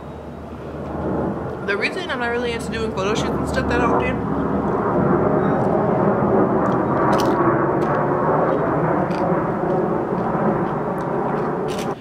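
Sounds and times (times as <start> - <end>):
airplane passing overhead: 0.0 - 12.0.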